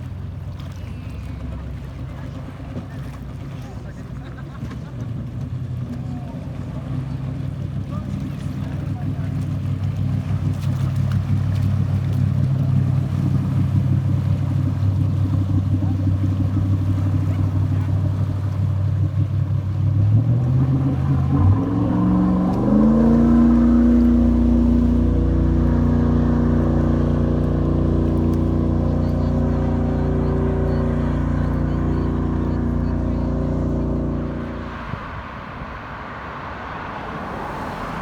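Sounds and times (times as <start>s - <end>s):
fire engine accelerating: 0.6s - 38.0s.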